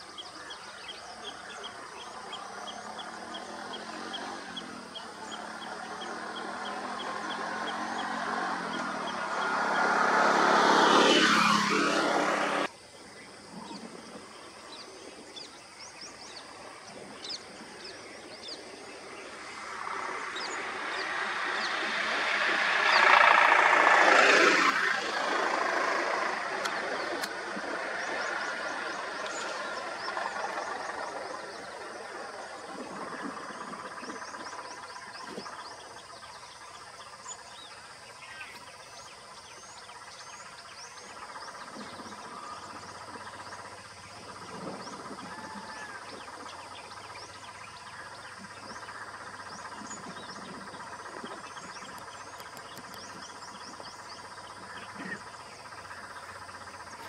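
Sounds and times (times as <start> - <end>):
frogs and insects chorus: 0.0 - 57.0
vehicle engine: 0.5 - 12.7, 16.3 - 57.0.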